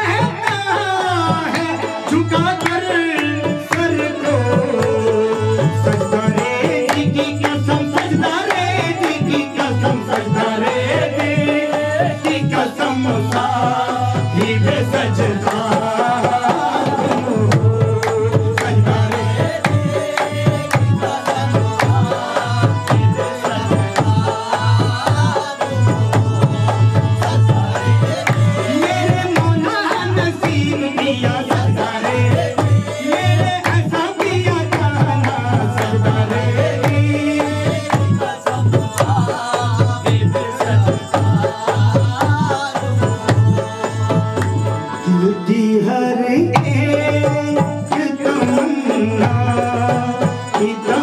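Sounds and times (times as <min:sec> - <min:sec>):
rhythmic hand clapping: 0:00.0 - 0:45.0
harmonium melody: 0:00.0 - 0:51.0
person singing: 0:00.0 - 0:51.0.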